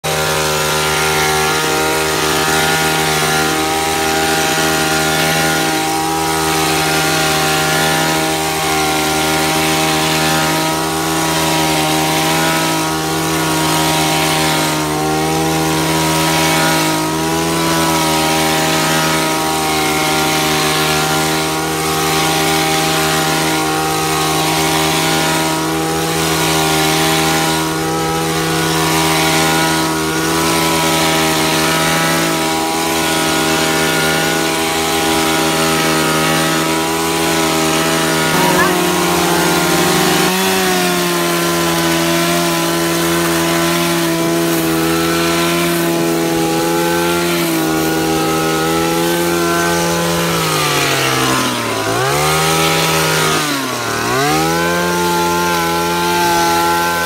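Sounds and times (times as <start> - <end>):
hedge trimmer engine running: 0.0 - 57.0.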